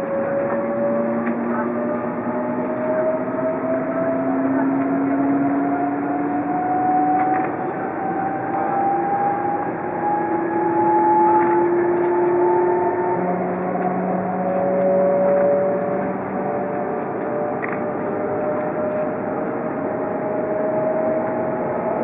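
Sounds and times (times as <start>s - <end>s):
train running rumble: 0.0s - 22.0s
train traction motors whining: 0.0s - 22.0s.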